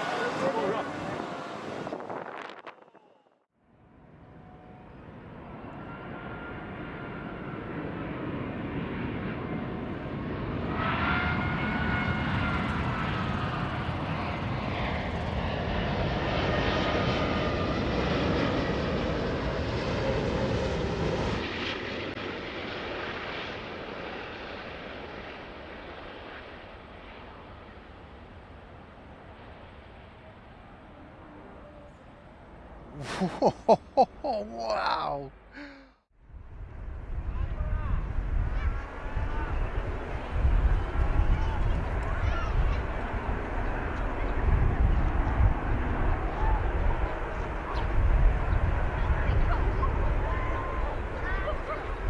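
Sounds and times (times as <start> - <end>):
jet airliner flying past: 0.0 - 35.6, 36.3 - 52.0.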